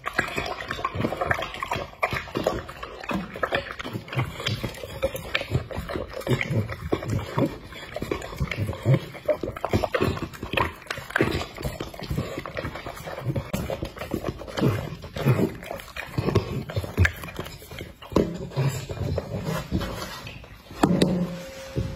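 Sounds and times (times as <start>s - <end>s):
dog lapping and slurping food: 0.0s - 21.9s.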